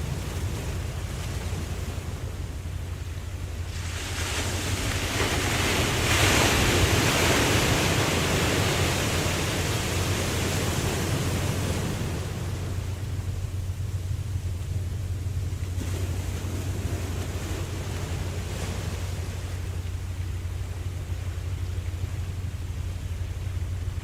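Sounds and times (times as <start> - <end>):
ocean wave breaking: 0.0 - 23.9
low surf rumble: 0.0 - 24.0.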